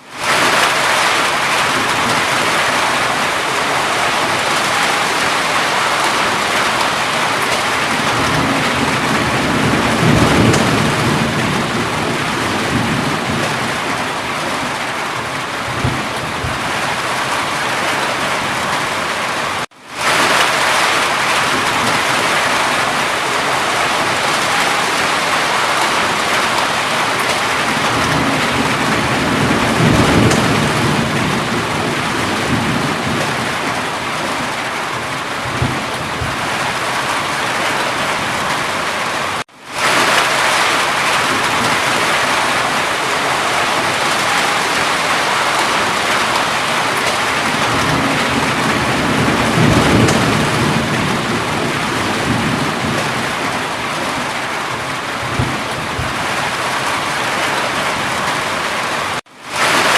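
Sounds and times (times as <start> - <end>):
heavy rain falling: 0.0 - 59.9
low rolling thunder: 0.2 - 18.8, 20.0 - 38.8, 39.8 - 58.0.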